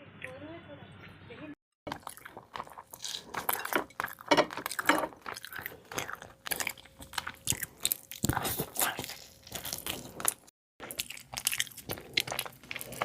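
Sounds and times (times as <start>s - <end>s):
person chewing crunchy food: 1.8s - 13.0s.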